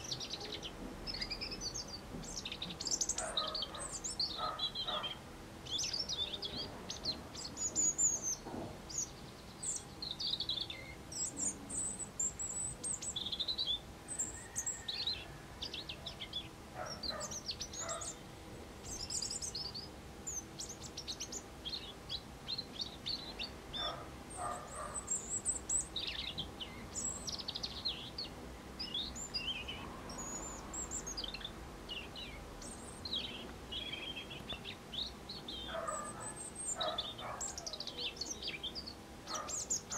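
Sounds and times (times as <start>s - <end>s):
robin singing: 0.0s - 39.9s.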